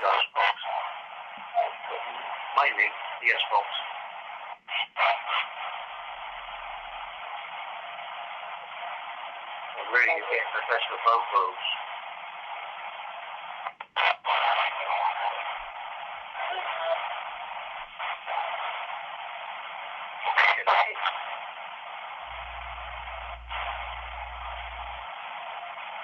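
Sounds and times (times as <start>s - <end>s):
snatches of radio voice: 0.0s - 6.2s, 9.6s - 12.8s, 13.4s - 26.0s
radio static sweeping: 0.0s - 26.0s.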